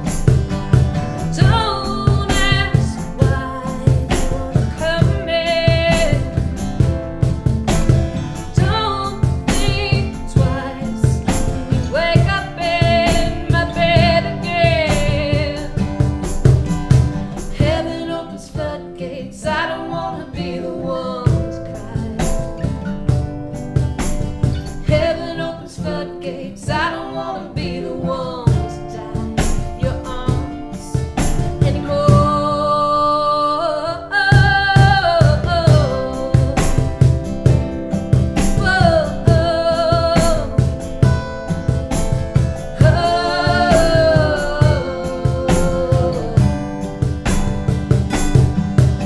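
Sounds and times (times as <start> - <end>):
woman singing: 0.0 - 23.2, 24.5 - 48.2
cajon beat: 0.0 - 33.0, 34.1 - 49.0
strummed acoustic guitars: 0.0 - 49.0.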